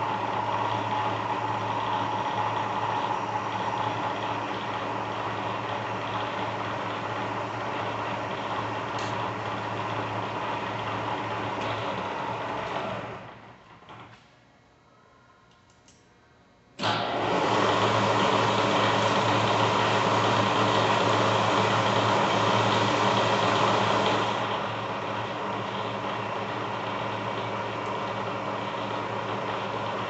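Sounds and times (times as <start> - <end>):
milling machine motor humming: 0.0 - 14.0, 16.8 - 30.0.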